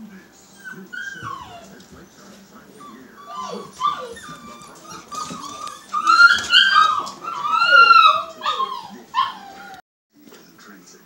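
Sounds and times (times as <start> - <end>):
dogs whining: 0.5 - 9.8.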